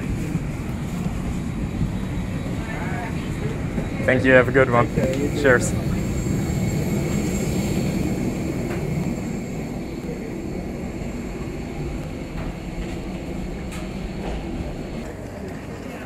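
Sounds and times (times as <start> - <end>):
airliner rumble: 0.0 - 16.0
faint high whine: 0.0 - 16.0.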